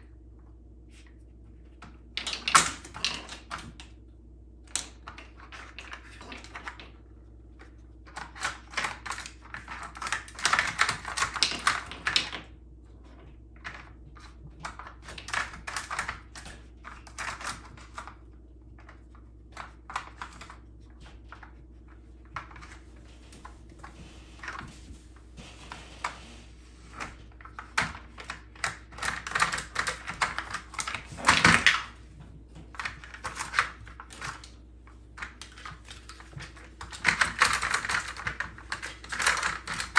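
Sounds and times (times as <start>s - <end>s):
plastic puzzle feeder clattering: 2.1s - 3.9s, 4.7s - 7.0s, 8.1s - 39.9s.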